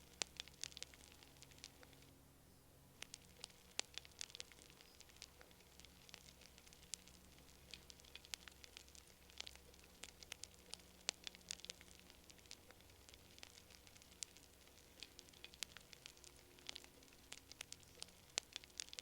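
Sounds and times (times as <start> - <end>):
campfire crackling: 0.0 - 2.1, 2.9 - 19.0.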